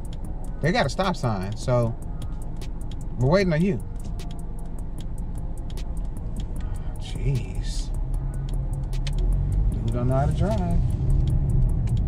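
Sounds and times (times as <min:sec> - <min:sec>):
music with fast ticking beat: 0:00.0 - 0:12.0.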